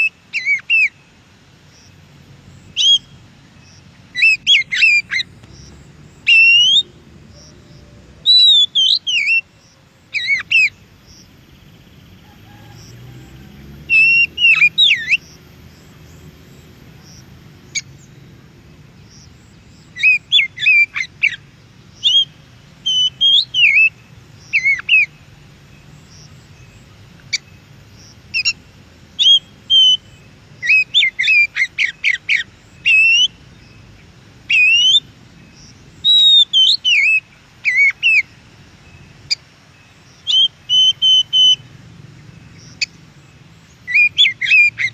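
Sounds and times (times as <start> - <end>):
bird singing whistled notes: 0.0 - 1.1, 2.5 - 13.0, 13.6 - 18.3, 19.0 - 44.9.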